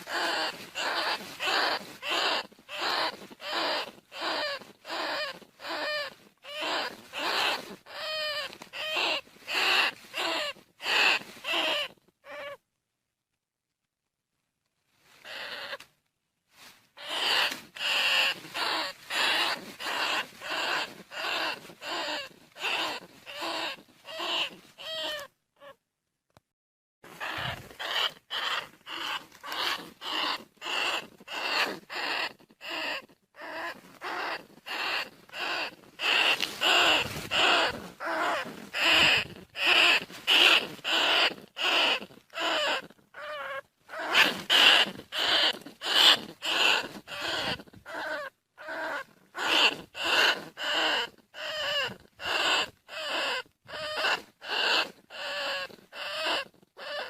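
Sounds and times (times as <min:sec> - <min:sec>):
rat squealing: 0:00.0 - 0:12.6, 0:15.2 - 0:15.8, 0:17.0 - 0:25.8, 0:27.1 - 0:57.0.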